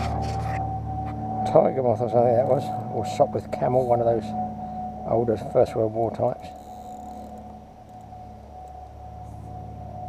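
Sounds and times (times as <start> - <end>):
propeller aircraft engine drone: 0.0 - 10.0.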